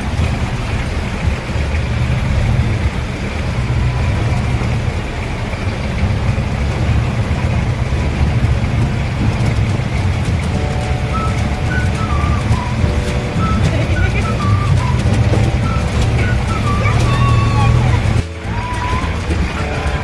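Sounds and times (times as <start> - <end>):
car engine running: 0.0 - 20.0
road noise: 0.0 - 20.0.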